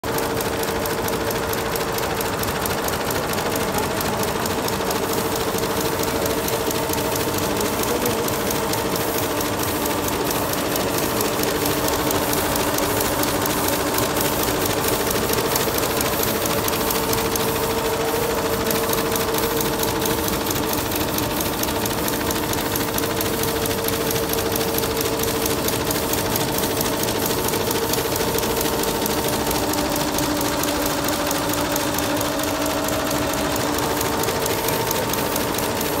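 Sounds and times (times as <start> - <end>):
embroidery machine needles clattering: 0.1 - 36.0.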